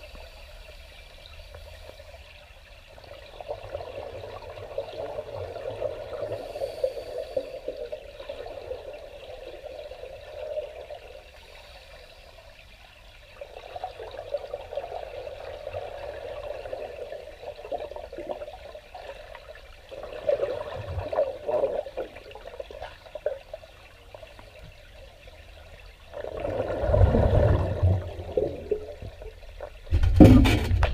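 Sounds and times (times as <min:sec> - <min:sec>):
underwater bubbling: 0:00.0 - 0:30.9.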